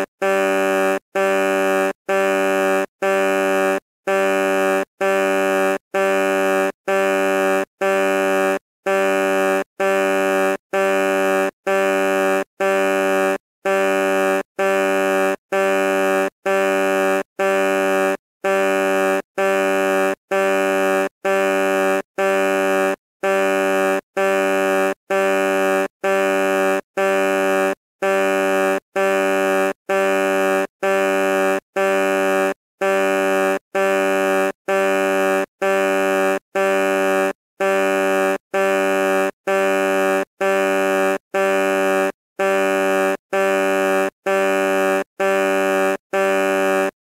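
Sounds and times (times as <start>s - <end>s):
truck horn blasts: 0.0s - 47.0s.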